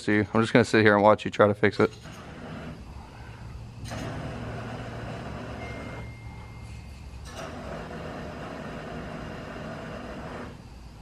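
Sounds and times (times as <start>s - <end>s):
gas torch hissing: 1.8s - 11.0s.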